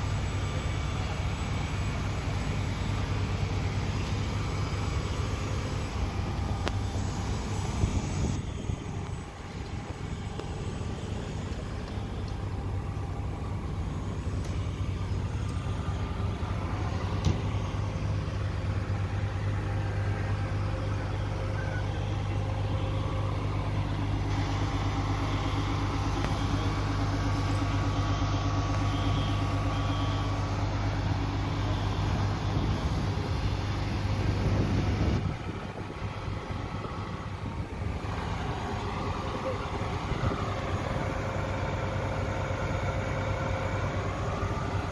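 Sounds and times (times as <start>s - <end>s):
heavy engine low drone: 0.0s - 44.9s.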